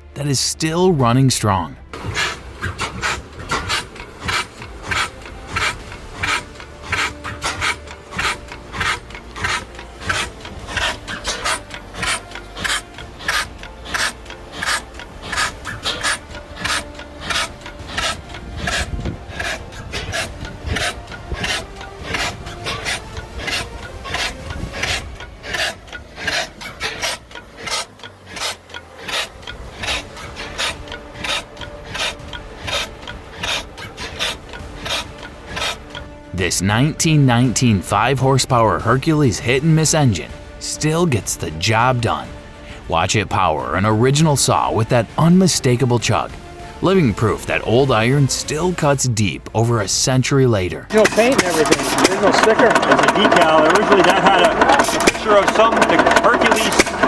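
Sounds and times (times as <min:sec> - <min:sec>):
stationary engine running: 0:00.0 - 0:57.0.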